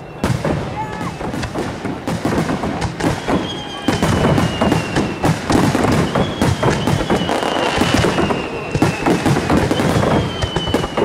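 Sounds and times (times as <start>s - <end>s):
descending firework whistle: 0.0s - 11.0s
fireworks crackling and bursting: 0.0s - 11.0s.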